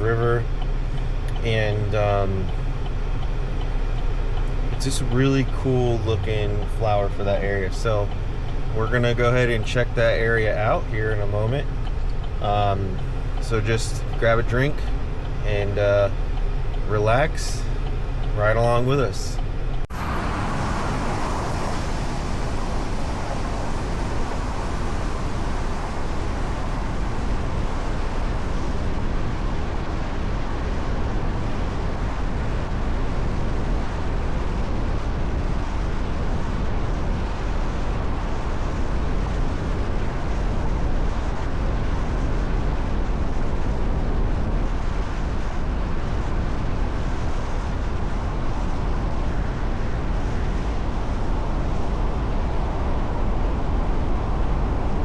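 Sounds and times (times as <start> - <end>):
car road and wind noise: 0.0 - 55.0.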